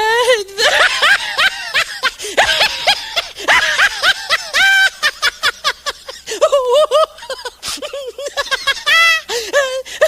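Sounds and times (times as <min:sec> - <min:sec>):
laughter: 0:00.6 - 0:10.0.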